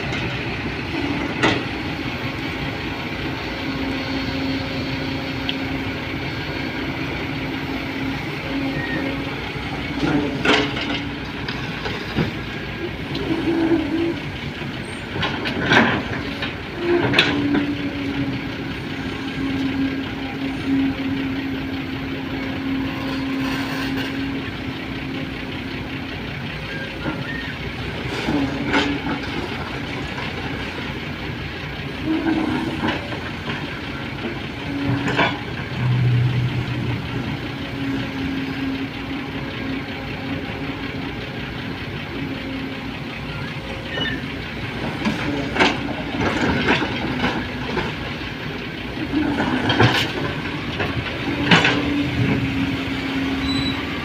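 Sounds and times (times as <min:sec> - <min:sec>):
heavy vehicle engine drone: 0:00.0 - 0:54.0.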